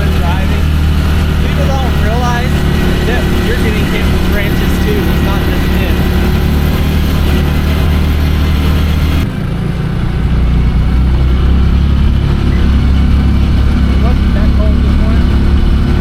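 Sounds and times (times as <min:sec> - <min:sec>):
side-by-side engine drone: 0:00.0 - 0:16.0.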